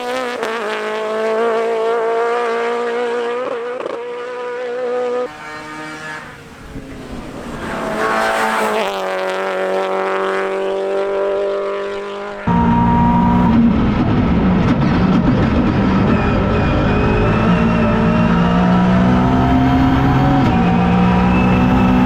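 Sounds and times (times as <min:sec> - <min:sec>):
rally car engine revving: 0:00.0 - 0:22.0
road noise: 0:00.0 - 0:22.0.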